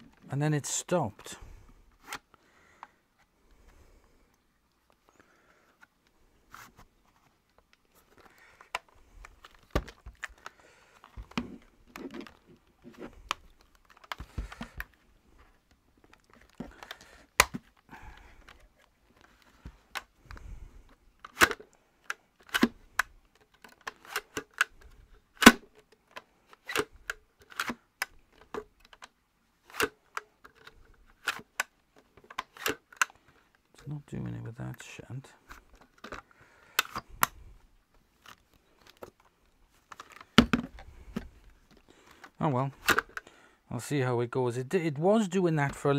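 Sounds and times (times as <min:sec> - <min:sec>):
plastic clicks of vacuum parts: 0:01.2 - 0:03.7, 0:04.3 - 0:43.4.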